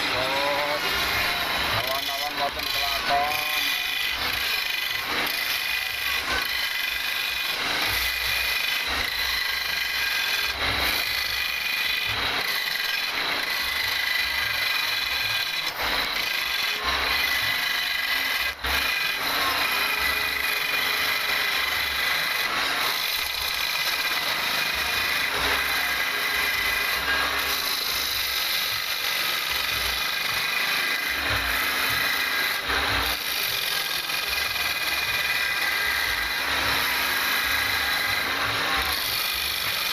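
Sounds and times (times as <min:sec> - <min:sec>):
lathe motor whine: 0:00.0 - 0:39.9
tool scraping spinning wood: 0:00.0 - 0:39.9.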